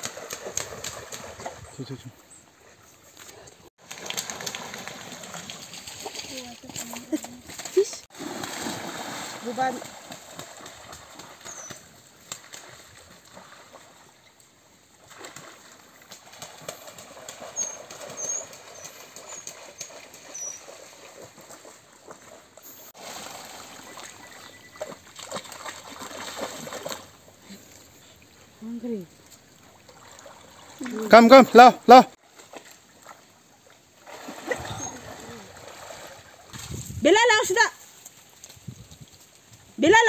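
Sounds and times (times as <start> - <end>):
water splashing from swimming dogs: 0.0 - 1.9, 3.8 - 31.4, 32.2 - 36.8.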